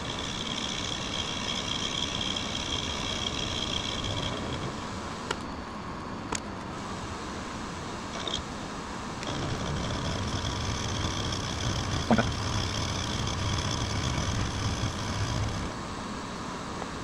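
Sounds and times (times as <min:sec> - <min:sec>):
milling machine hum and whine: 0:00.0 - 0:17.0.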